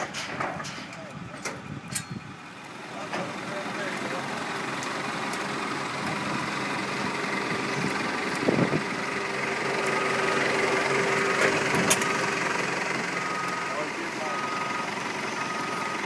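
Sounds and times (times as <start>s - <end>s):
motor idling: 2.6s - 16.0s.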